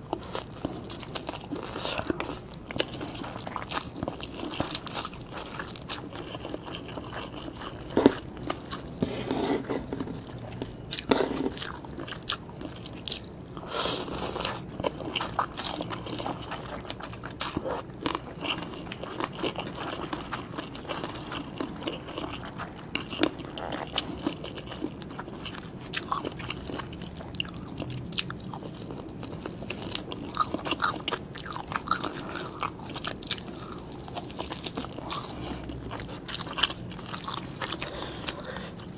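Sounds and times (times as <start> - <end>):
food crunching: 0.0 - 38.9
person chewing food: 0.0 - 38.9.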